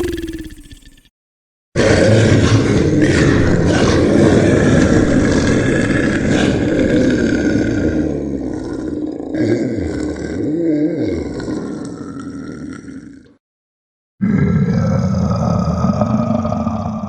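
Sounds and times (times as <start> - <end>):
monster growl: 1.8 - 13.4, 14.2 - 17.0
monster roaring: 1.8 - 13.4, 14.2 - 17.0.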